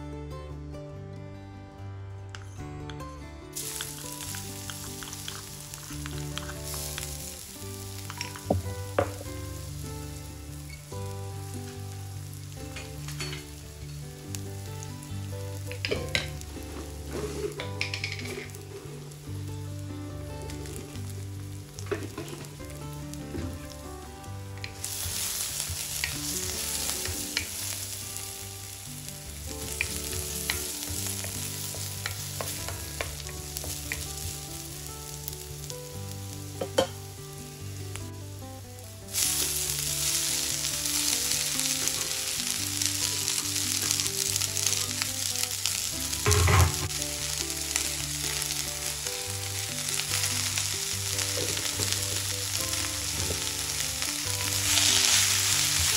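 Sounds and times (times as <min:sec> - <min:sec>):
garlic and chillies sizzling in oil: 0:03.5 - 0:55.9
leaves sizzling in hot oil: 0:03.5 - 0:55.9.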